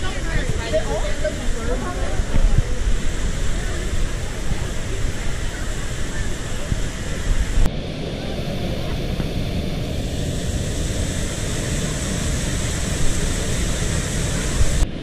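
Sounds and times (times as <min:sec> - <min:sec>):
heavy low rumble: 0:00.0 - 0:15.0.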